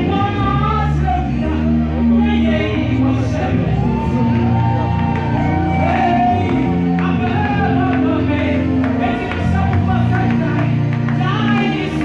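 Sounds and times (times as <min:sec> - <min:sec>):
gospel band with keyboards: 0:00.0 - 0:12.0
backing singers: 0:00.1 - 0:12.0.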